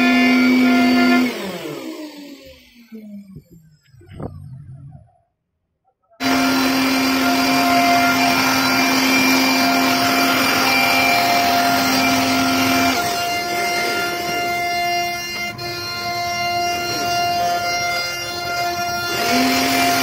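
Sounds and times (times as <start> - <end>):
cnc router whining: 0.0 - 5.1, 6.2 - 20.0.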